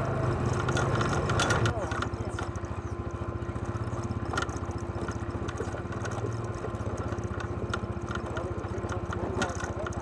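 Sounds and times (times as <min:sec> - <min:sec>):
atv engine running: 0:00.0 - 0:10.0
rattles: 0:00.4 - 0:10.0.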